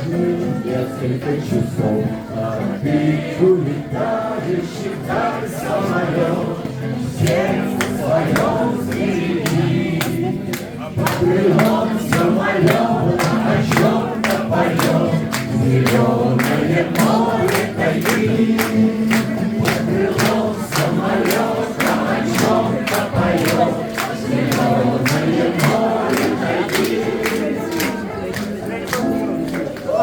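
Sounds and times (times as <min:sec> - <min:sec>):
choir-like voices: 0:00.0 - 0:30.0.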